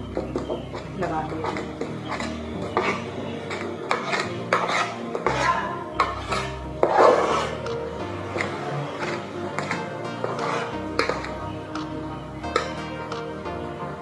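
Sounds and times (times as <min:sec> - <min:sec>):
spoon scraping metal bowl: 0:00.2 - 0:13.3.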